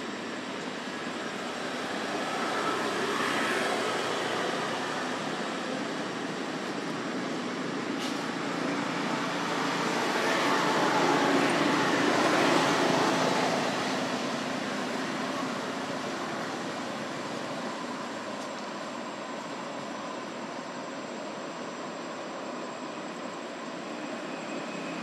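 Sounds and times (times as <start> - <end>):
steady rushing background noise: 0.0 - 25.0.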